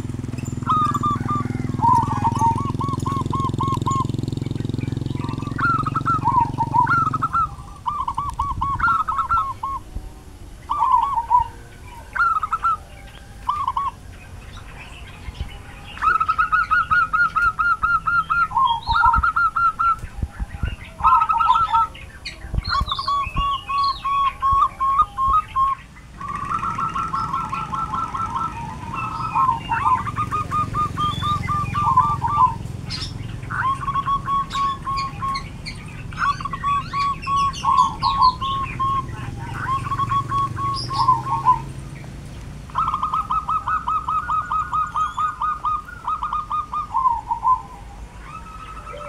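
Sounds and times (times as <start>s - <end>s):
doves cooing: 0.0s - 49.0s
motorbike engine: 0.0s - 49.0s.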